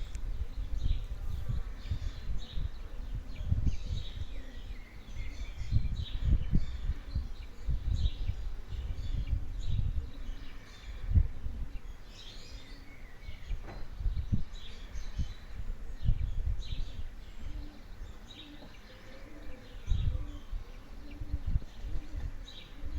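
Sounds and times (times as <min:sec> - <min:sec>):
small birds chirping: 0:00.0 - 0:22.9
wind buffeting microphone: 0:00.0 - 0:22.9.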